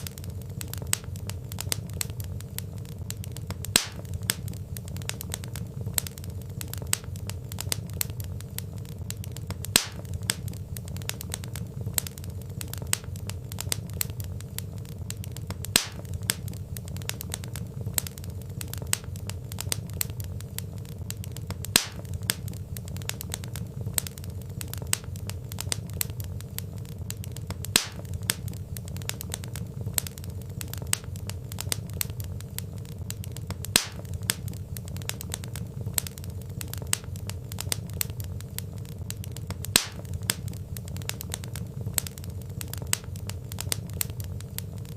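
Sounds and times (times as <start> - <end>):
burning logs crackling: 0.0 - 44.9
sharp fire pops: 0.0 - 44.9.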